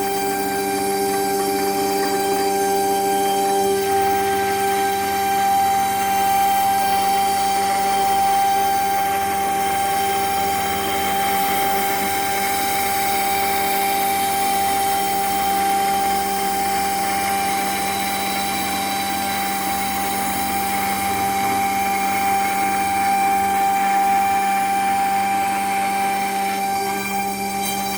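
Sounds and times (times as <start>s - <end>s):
router spindle whining: 0.0s - 27.9s.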